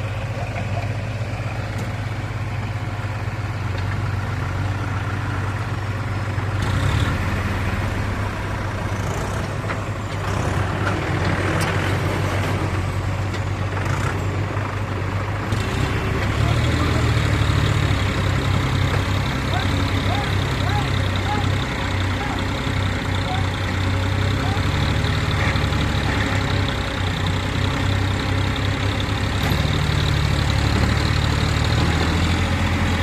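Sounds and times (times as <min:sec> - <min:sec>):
diesel tractor engine under load: 0:00.0 - 0:33.0.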